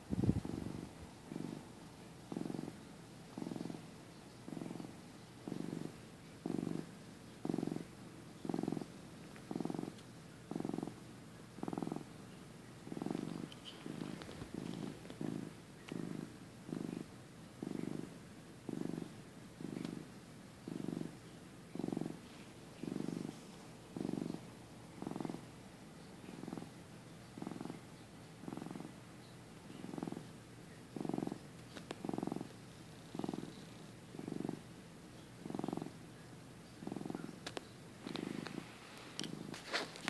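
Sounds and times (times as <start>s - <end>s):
cat purring: 0.0s - 40.0s.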